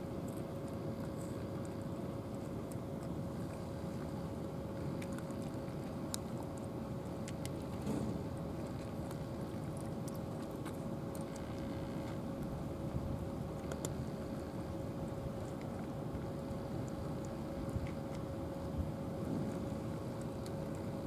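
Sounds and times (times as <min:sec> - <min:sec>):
cats crunching dry kibble: 0:00.0 - 0:21.0.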